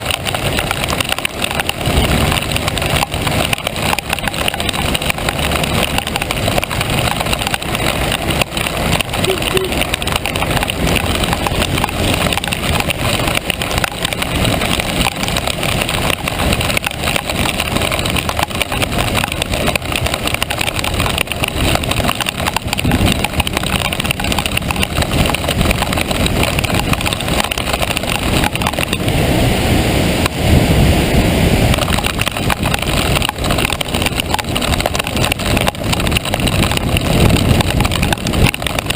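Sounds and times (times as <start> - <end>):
car engine noise: 0.0 - 38.9
tyres on wet pavement: 0.0 - 38.9
wind noise: 0.0 - 38.9
low rumble: 4.7 - 38.9.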